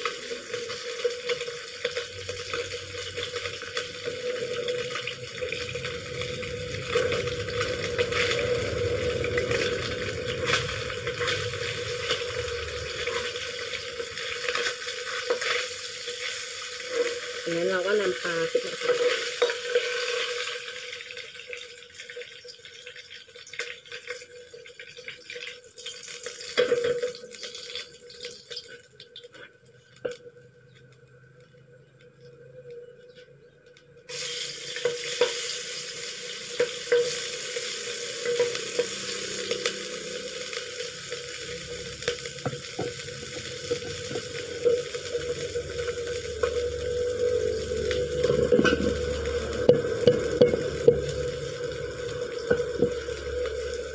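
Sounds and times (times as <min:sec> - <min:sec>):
oil sizzling in a wok: 0:00.0 - 0:32.6, 0:34.0 - 0:53.9.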